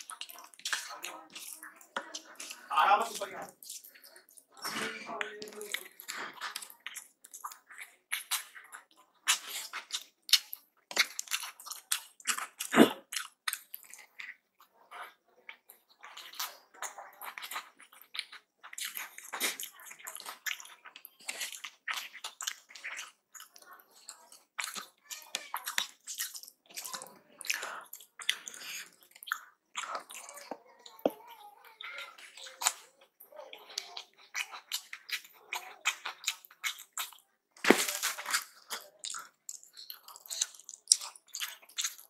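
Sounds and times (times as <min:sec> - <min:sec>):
wet chewing and lip-smacking: 0:00.0 - 0:42.0.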